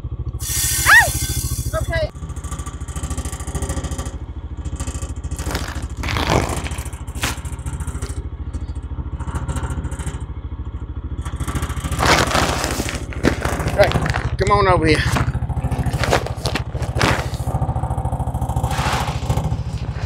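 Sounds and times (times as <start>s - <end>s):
engine running with pulsing beat: 0.0s - 20.0s.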